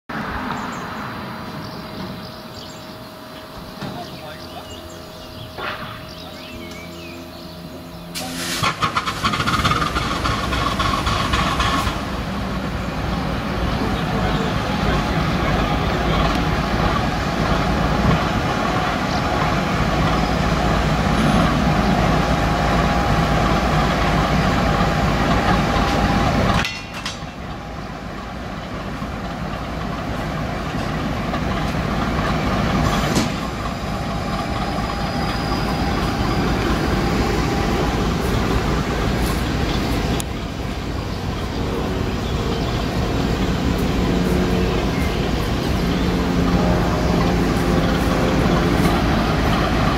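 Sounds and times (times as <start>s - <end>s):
diesel locomotive running: 0.1s - 49.9s.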